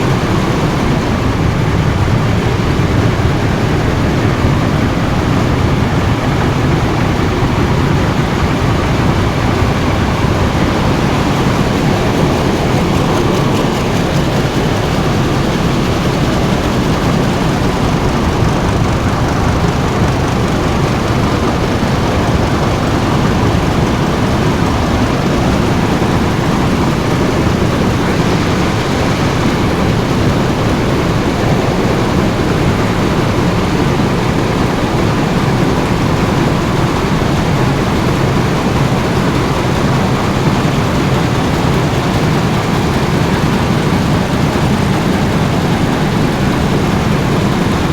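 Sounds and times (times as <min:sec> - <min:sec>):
textile machine running: 0:00.0 - 0:47.9.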